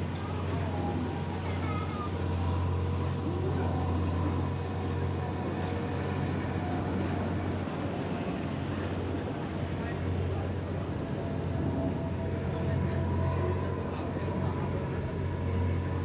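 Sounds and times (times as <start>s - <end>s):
faint voices: 0.0s - 16.0s
road traffic rumble: 0.0s - 16.0s.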